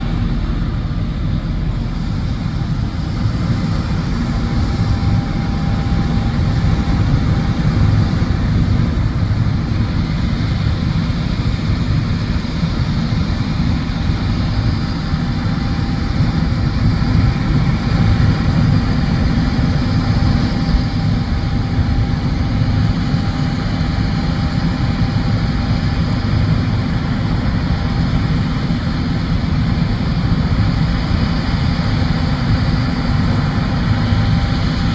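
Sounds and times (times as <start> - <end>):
combine harvester drone: 0.0 - 34.9
faint steady whine: 0.0 - 34.9.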